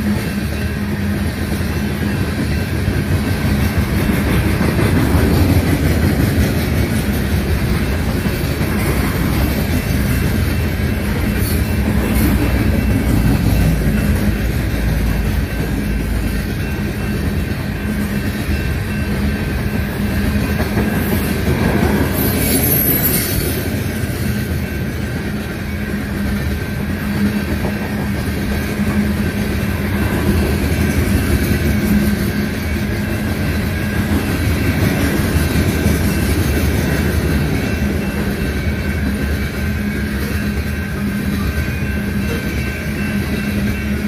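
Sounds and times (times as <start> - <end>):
steady high tone: 0.0 - 44.0
train wheels rumbling and clattering: 0.0 - 44.0.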